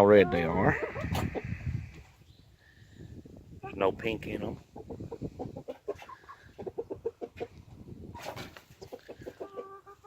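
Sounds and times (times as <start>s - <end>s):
chickens clucking: 0.0s - 2.3s, 3.5s - 10.0s.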